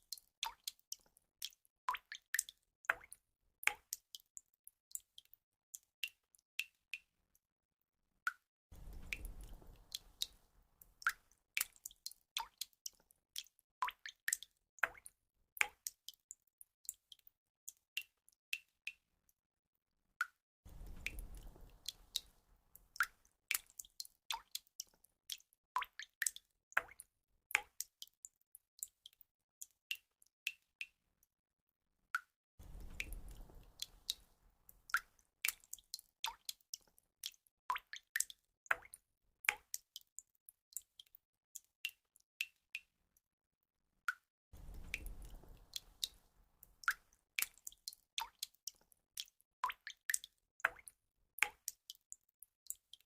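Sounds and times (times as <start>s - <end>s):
water drops dripping: 0.0s - 7.1s, 8.3s - 19.0s, 20.2s - 31.0s, 32.2s - 42.9s, 44.1s - 53.0s.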